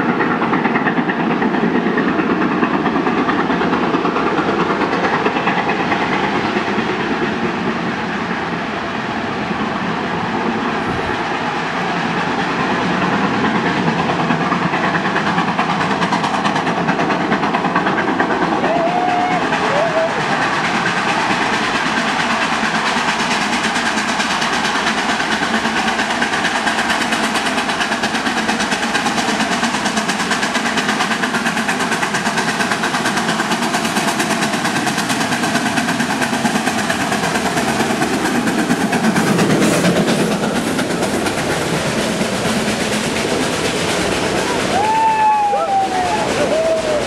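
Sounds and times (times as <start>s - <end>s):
railway coaches rolling by: 0.0s - 47.0s
steam locomotive chuffing: 0.0s - 47.0s.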